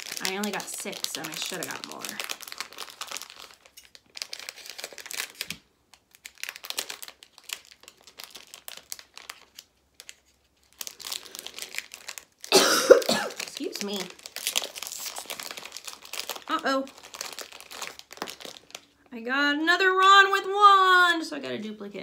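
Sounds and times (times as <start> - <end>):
plastic wrapper crinkling and tearing: 0.0 - 19.1.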